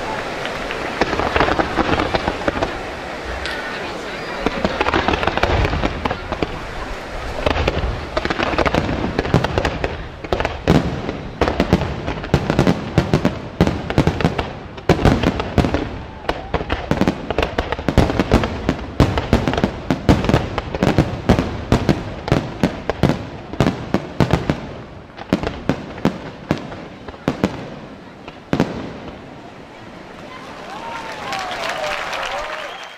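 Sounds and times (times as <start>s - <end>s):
fireworks bangs: 0.0s - 32.9s.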